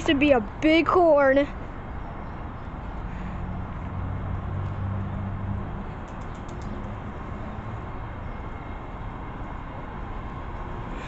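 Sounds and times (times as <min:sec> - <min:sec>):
outdoor urban background noise: 0:00.0 - 0:11.0.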